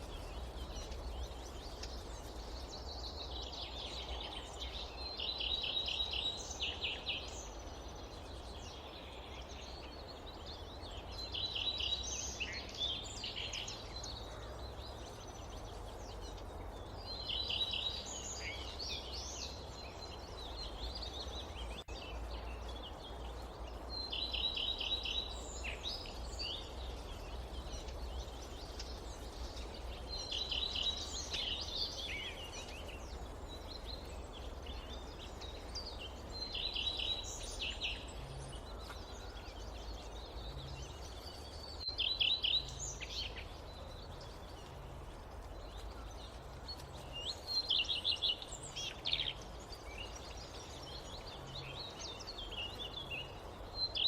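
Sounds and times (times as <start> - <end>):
low rumble of wind: 0.0 - 54.0.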